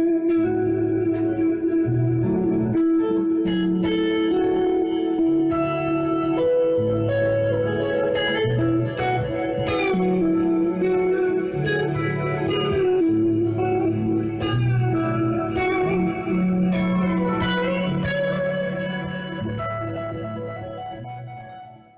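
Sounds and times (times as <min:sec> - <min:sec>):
clean electric guitar with delay: 0:00.0 - 0:21.9.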